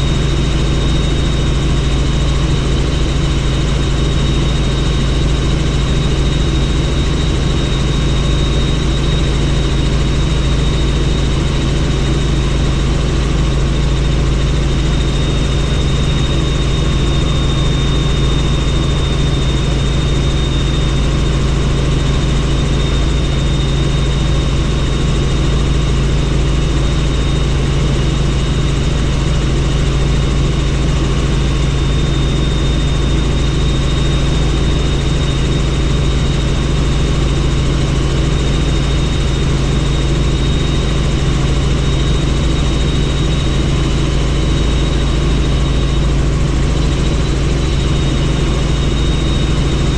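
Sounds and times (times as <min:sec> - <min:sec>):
helicopter drone: 0:00.0 - 0:49.9
high-pitched whine: 0:00.0 - 0:49.9.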